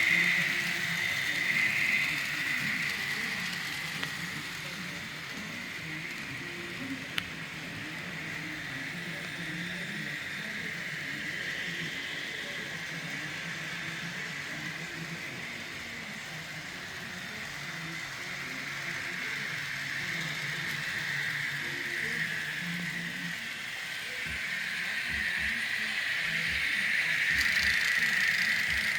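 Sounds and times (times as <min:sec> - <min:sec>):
model train motor whirring: 0:00.0 - 0:28.9.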